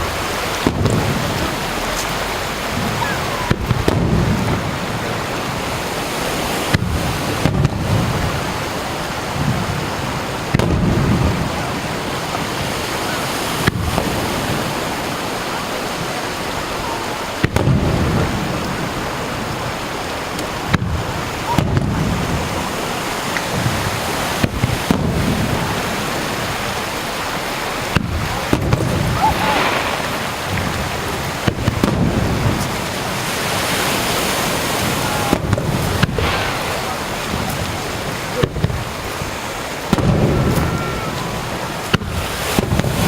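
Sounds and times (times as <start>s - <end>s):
fireworks booming: 0.0s - 43.0s
surf rushing: 0.0s - 43.0s.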